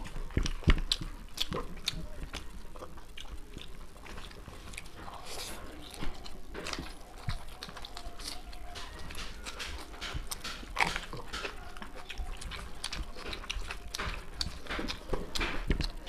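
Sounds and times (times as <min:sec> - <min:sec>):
chewing and mouth noises: 0:00.0 - 0:16.0.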